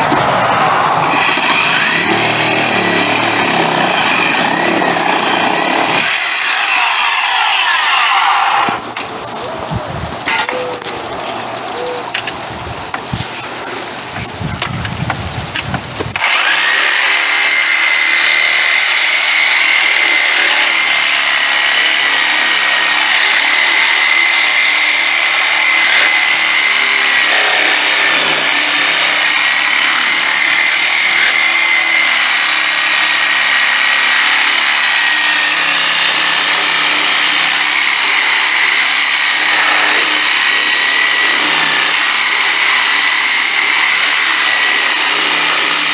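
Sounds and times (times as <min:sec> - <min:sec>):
power tool cutting metal: 0:00.0 - 0:45.9.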